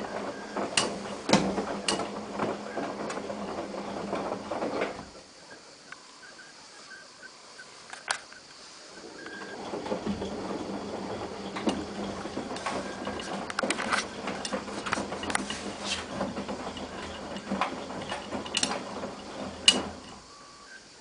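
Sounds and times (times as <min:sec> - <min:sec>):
clicks and knocks of tumbling load: 0:00.0 - 0:05.5, 0:09.0 - 0:20.6
washing machine motor hum: 0:00.0 - 0:05.5, 0:08.9 - 0:21.0.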